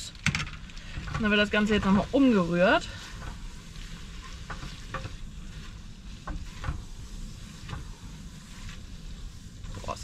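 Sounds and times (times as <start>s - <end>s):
pot sizzling: 0.0s - 10.0s.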